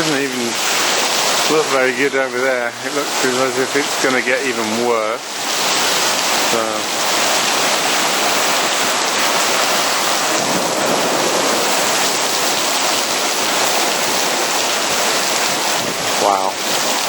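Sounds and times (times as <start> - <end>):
torrential rain pouring: 0.0 - 17.0.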